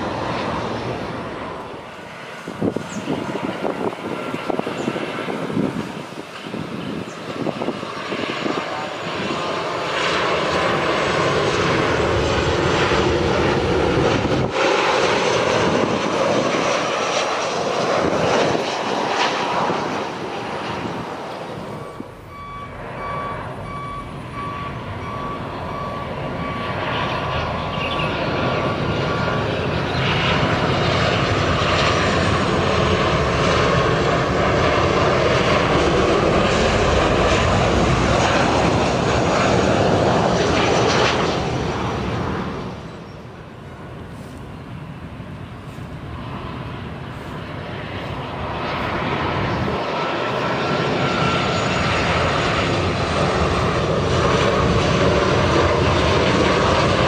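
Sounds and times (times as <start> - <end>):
jet airliner landing rush: 0.0 - 57.0.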